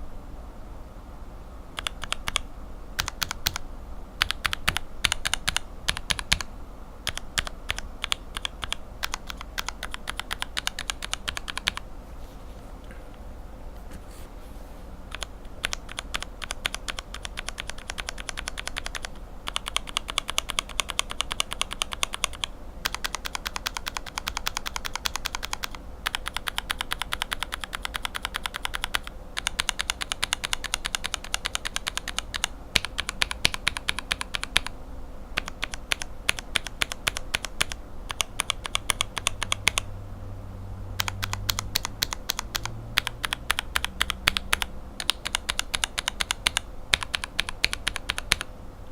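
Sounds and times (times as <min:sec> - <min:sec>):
mechanical keyboard typing: 0:01.8 - 0:11.8, 0:15.1 - 0:34.7, 0:35.4 - 0:39.9, 0:41.0 - 0:48.5.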